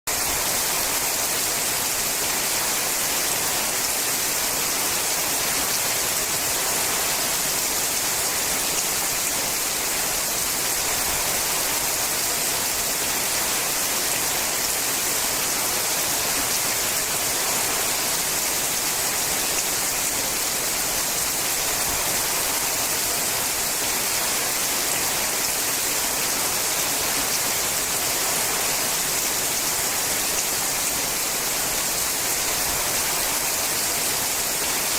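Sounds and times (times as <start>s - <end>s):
rain on a metal roof: 0.1s - 34.9s.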